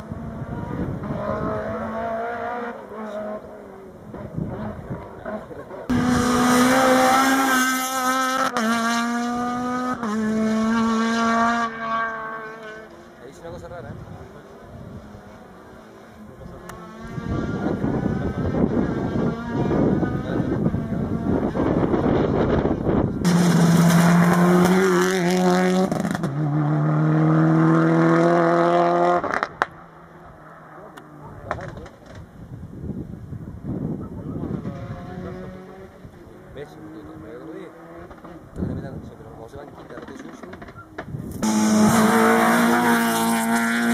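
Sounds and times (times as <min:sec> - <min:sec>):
car engine revving with gear shifts: 0:00.0 - 0:32.3, 0:34.0 - 0:43.9.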